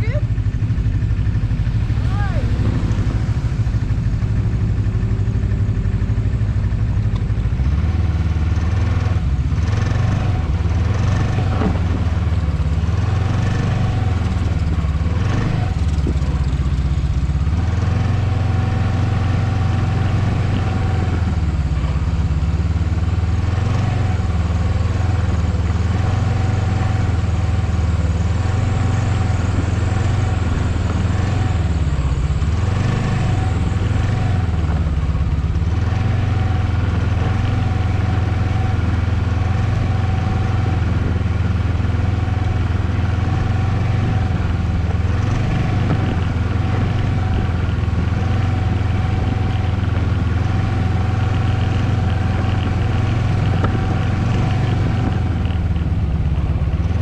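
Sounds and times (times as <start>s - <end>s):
snowmobile engine droning: 0.0s - 57.0s.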